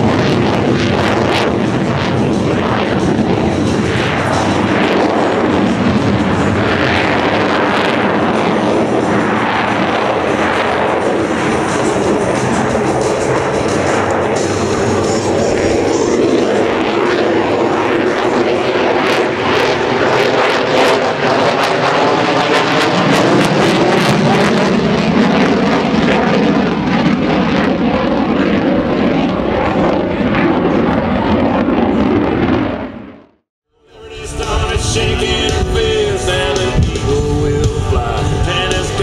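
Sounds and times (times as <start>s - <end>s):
ragged crackle of jet noise: 0.0s - 33.4s
jet fighter roaring overhead: 0.0s - 39.0s.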